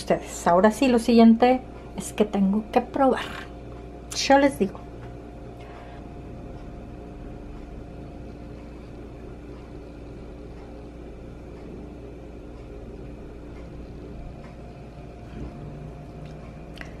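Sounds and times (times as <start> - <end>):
faint steady tones: 0.0 - 17.0
low room hum: 0.0 - 17.0.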